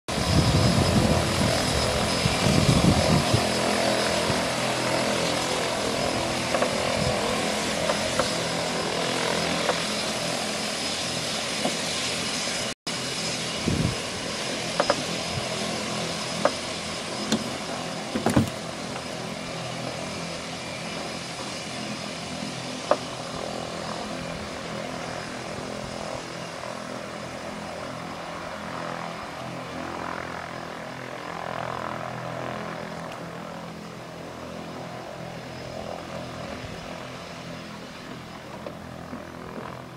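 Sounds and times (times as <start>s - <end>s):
turboprop engine whine: 0.1s - 39.9s.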